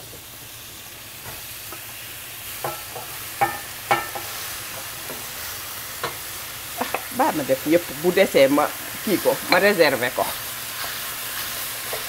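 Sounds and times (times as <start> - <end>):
ground beef sizzling: 0.0 - 12.0.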